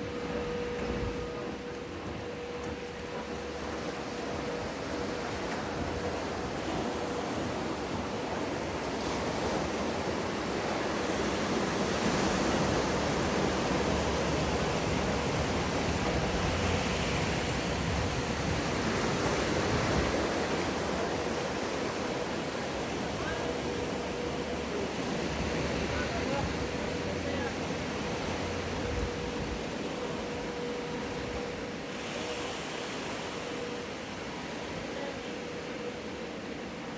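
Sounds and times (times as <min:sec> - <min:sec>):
faint steady hum: 0:00.0 - 0:36.9
waves breaking and rushing water: 0:00.0 - 0:36.9.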